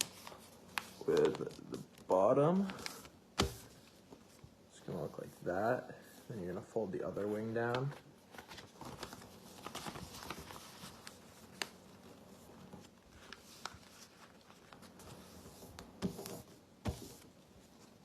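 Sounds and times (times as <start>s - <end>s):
paper rustling as folded: 0.0s - 5.4s, 7.1s - 18.0s.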